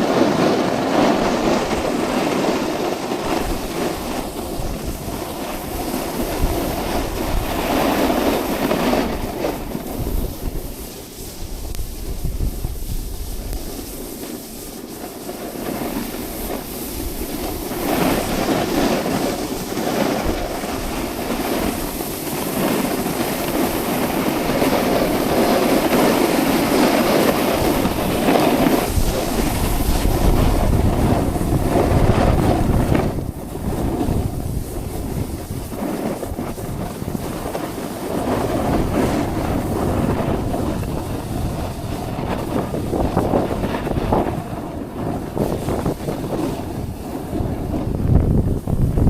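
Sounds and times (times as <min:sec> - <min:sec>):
snowboard scraping over snow: 0:00.0 - 0:49.0
wind on microphone: 0:00.0 - 0:49.0.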